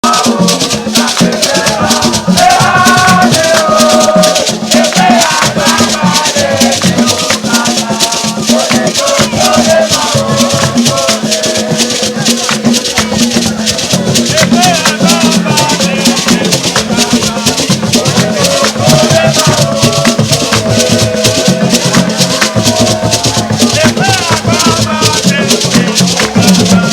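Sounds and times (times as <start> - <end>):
music with shaker and drums: 0.0 - 26.9.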